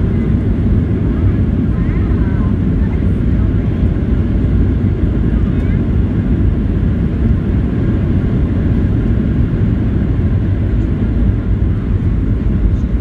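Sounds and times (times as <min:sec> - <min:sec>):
jet engine noise in cabin: 0:00.0 - 0:13.0.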